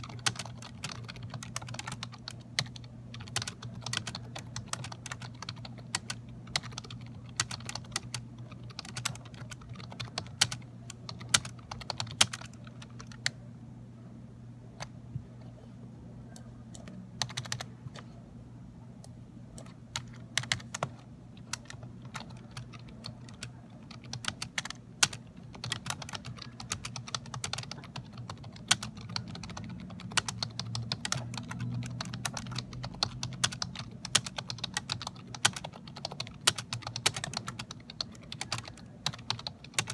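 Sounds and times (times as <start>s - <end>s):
keyboard typing clicks: 0.0s - 13.4s, 16.3s - 18.0s, 19.0s - 39.9s
low steady hum: 0.0s - 39.9s.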